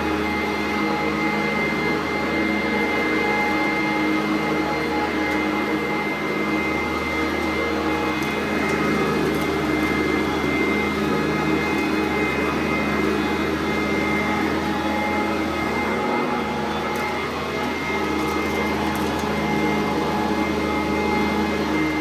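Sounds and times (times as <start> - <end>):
vacuum cleaner motor whining: 0.0 - 22.0.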